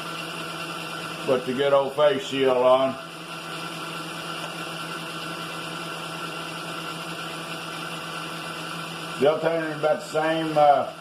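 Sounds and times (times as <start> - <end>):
milling machine hum and whine: 0.0 - 11.0.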